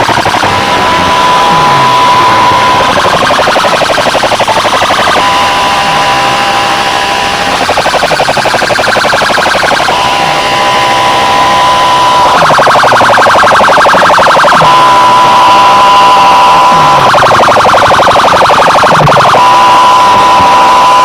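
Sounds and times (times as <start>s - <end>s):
siren-like alarm tones: 0.0s - 21.0s.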